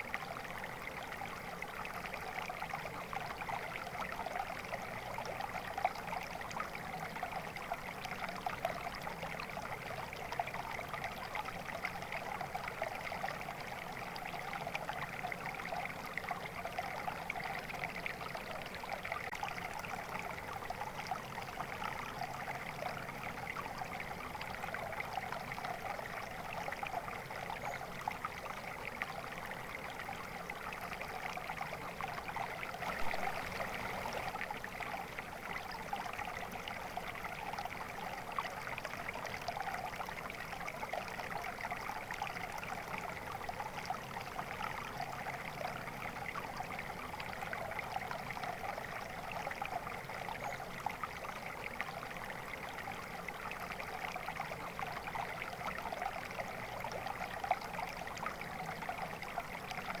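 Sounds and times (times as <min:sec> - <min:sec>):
stream water trickling: 0:00.0 - 1:00.0.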